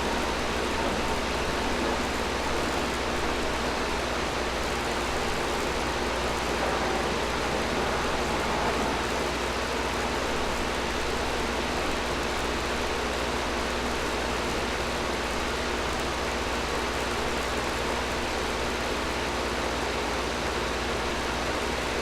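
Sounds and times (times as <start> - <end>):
air conditioner running: 0.0 - 22.0.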